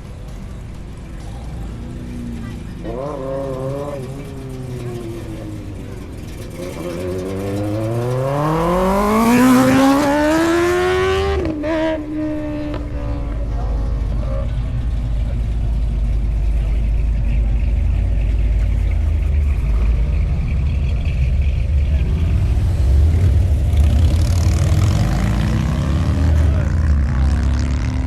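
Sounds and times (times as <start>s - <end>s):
car engine idling: 0.0s - 10.6s, 11.5s - 25.8s.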